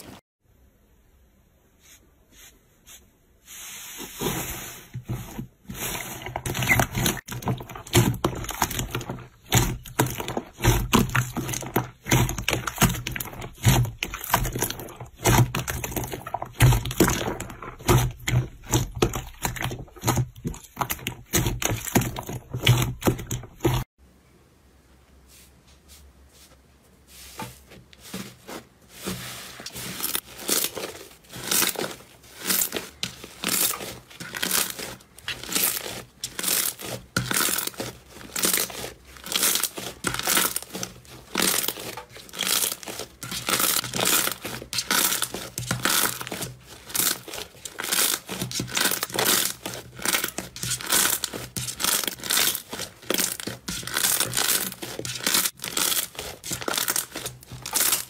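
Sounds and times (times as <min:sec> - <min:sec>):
slime squelching: 0:02.9 - 0:23.9, 0:27.1 - 0:58.0.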